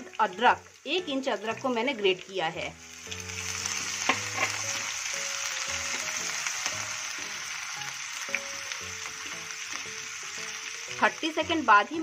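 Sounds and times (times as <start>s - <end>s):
ginger and garlic sizzling in oil: 0.0s - 12.0s.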